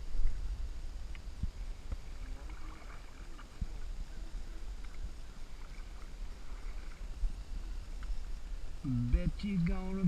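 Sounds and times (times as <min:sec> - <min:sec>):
faint water sounds: 0:00.0 - 0:10.0
wind rumble on microphone: 0:00.0 - 0:10.0.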